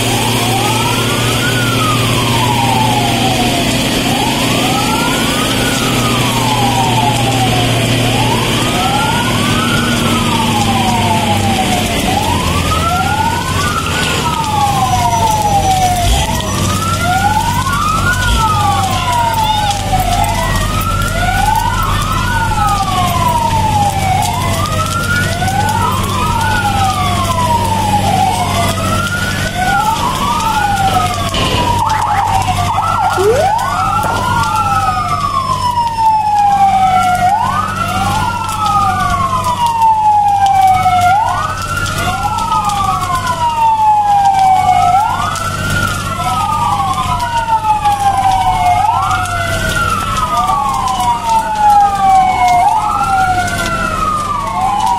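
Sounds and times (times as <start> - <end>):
electronic sirens wailing: 0.0 - 54.9.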